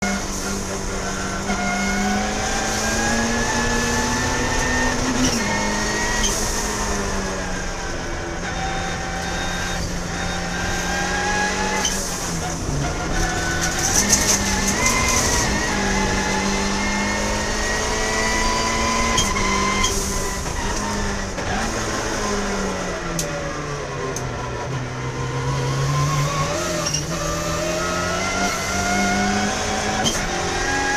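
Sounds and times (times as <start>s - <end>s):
racing car engine high revs: 0.0s - 30.9s.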